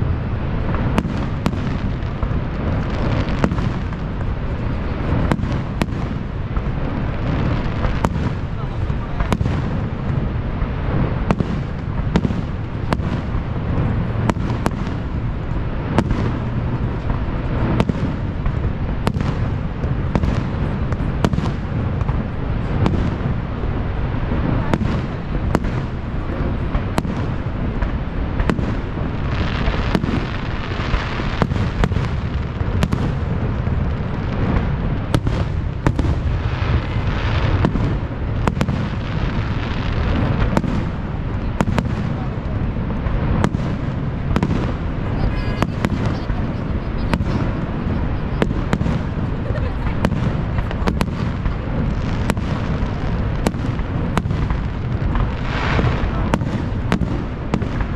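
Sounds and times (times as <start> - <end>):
distant fireworks bangs: 0.0 - 57.9
fireworks crackling: 0.0 - 57.9
low rumble: 0.0 - 57.9.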